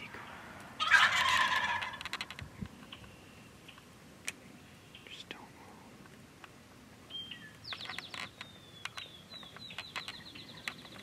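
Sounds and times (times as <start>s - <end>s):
birds chirping: 0.0s - 6.1s, 7.0s - 11.0s.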